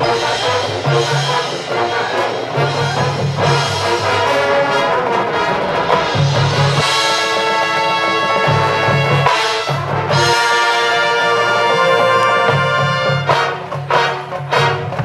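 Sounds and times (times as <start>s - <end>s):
low brass notes: 0.0s - 15.0s
marching band playing: 0.0s - 15.0s
trumpets and trombones chords: 0.0s - 15.0s.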